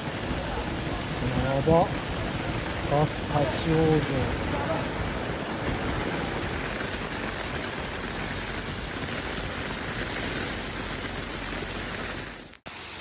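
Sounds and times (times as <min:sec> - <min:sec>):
torrential rain pouring: 0:00.0 - 0:13.0.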